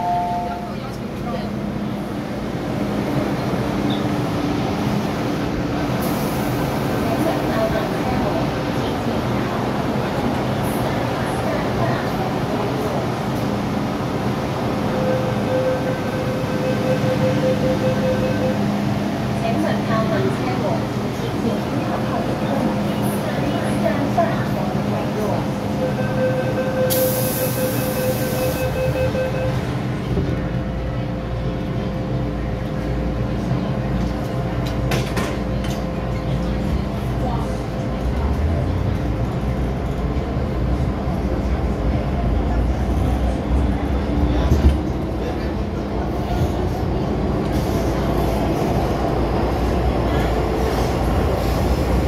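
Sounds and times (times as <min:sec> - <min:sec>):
metro car rumble: 0:00.0 - 0:52.0.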